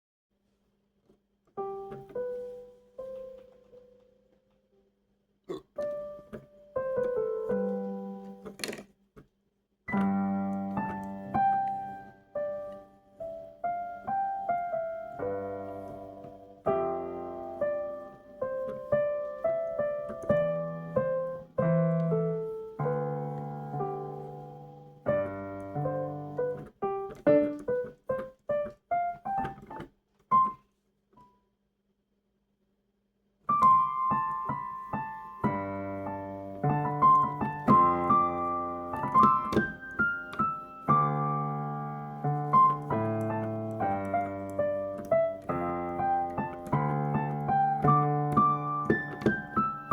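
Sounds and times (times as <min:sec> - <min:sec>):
solo piano melody: 0:01.5 - 0:04.9, 0:05.8 - 0:08.7, 0:09.9 - 0:31.4, 0:33.4 - 0:49.9.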